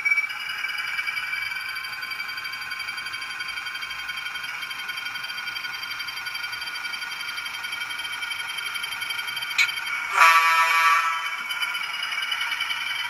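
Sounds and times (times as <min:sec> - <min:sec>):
model locomotive whining: 0:00.0 - 0:13.0.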